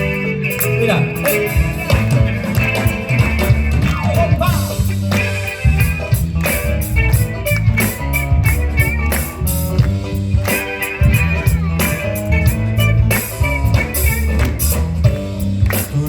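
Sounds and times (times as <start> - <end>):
bass guitar: 0.0 - 16.0
drum kit beat: 0.0 - 16.0
electric guitar melody: 0.0 - 16.0.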